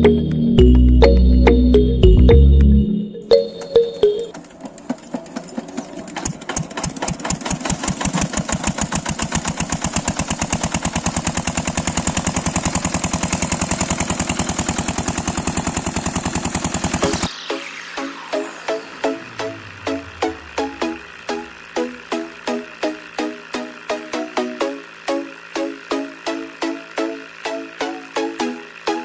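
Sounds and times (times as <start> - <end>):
small engine puttering: 4.1 - 17.4, 18.1 - 29.0.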